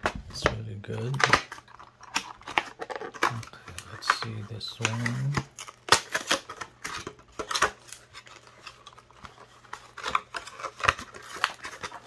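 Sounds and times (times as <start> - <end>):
plastic packaging crackling: 0.0 - 12.0.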